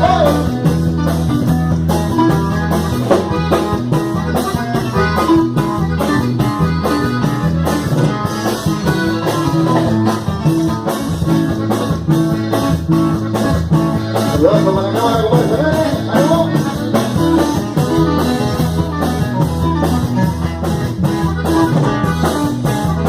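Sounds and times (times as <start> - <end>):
bass guitar: 0.0 - 23.0
guitar: 0.0 - 23.0
steady drum beat: 0.0 - 23.0.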